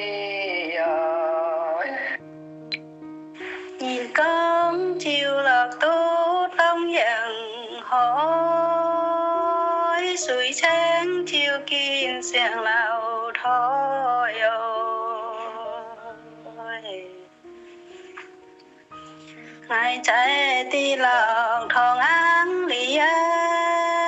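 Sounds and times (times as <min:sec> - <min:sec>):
person singing slow song: 0:00.0 - 0:18.0, 0:18.9 - 0:24.0.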